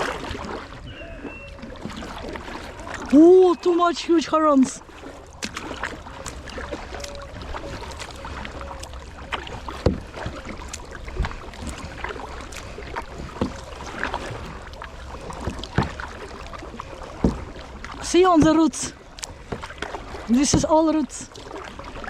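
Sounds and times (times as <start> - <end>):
paddle splashing: 0.0 - 22.0
paddle knocking on hull: 0.2 - 22.0.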